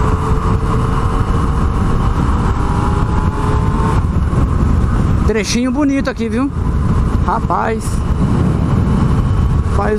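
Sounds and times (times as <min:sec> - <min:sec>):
faint engine whine: 0:00.0 - 0:09.9
motorcycle engine cruising: 0:00.0 - 0:09.9
wind rush on microphone: 0:00.0 - 0:09.9.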